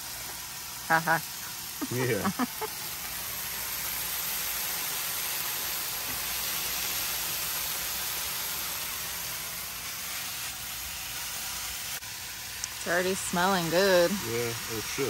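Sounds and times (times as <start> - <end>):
ham sizzling on a griddle: 0.0 - 15.0.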